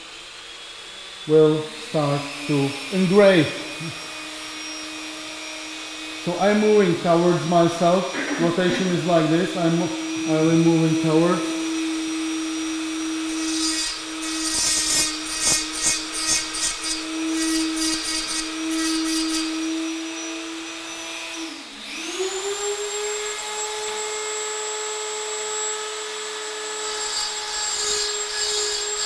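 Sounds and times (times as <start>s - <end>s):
rotary tool motor whine: 0.0s - 29.0s.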